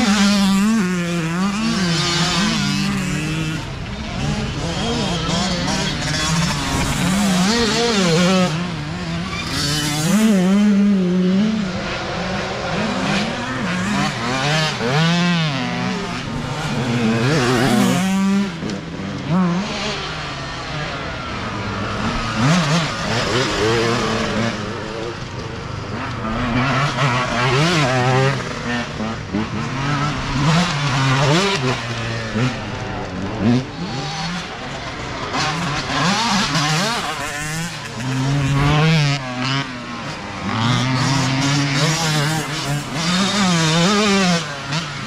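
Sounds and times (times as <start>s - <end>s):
dirt bike engines racing past: 0.0s - 45.0s.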